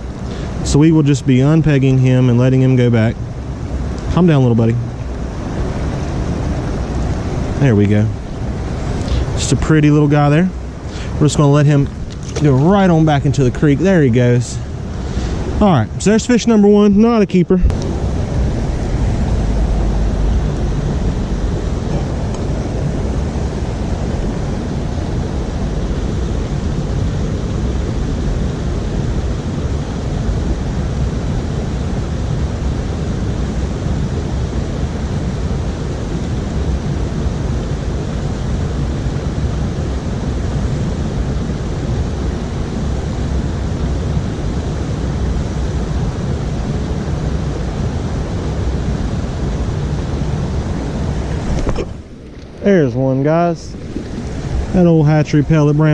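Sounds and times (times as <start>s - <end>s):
creek water rushing: 0.0s - 55.9s.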